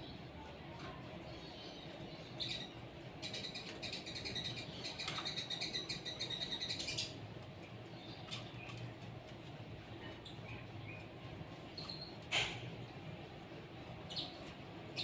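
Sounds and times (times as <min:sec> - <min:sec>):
small birds chirping: 0:00.0 - 0:13.2, 0:13.8 - 0:15.0.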